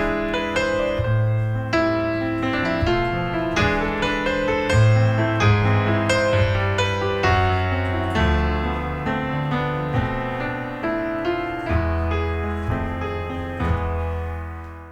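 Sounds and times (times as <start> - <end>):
piano chords: 0.0 - 14.9.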